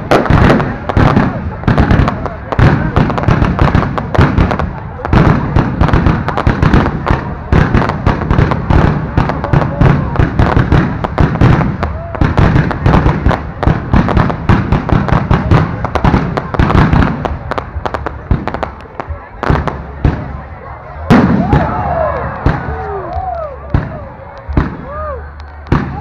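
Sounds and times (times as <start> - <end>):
fireworks bursting with rapid bangs: 0.0 - 26.0.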